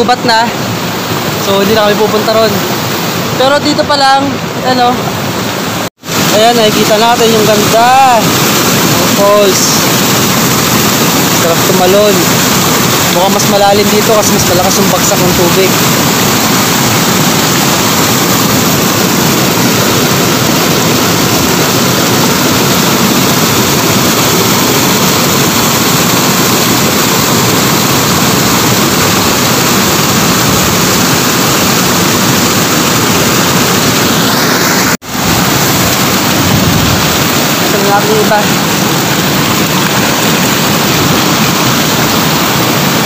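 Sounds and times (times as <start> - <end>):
waterfall plunging into pool: 0.0 - 43.0.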